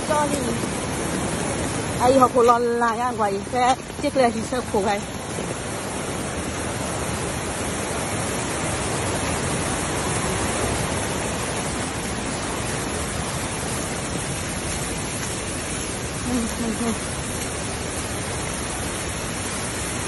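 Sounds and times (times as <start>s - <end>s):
heavy rain: 0.0s - 20.0s
muddy runoff flowing: 0.0s - 20.0s.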